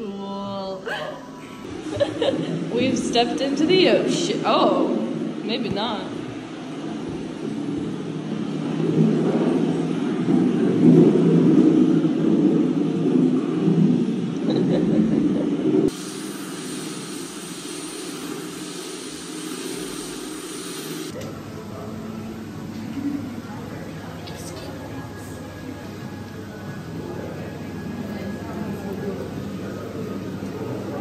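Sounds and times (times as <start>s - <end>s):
steady background noise: 0.0s - 31.0s.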